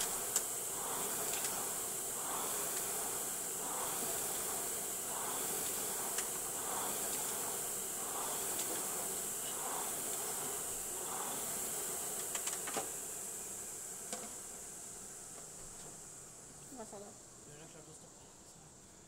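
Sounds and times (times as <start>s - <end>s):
rowing machine fan whirring: 0.0s - 17.9s.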